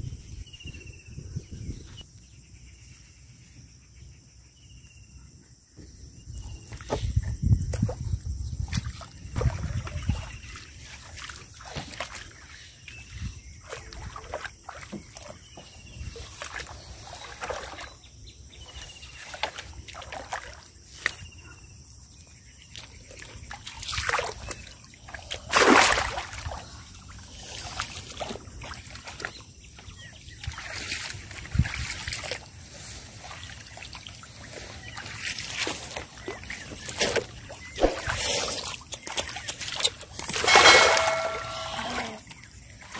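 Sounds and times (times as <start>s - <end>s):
muddy water splashing: 6.7s - 21.3s, 22.5s - 42.9s.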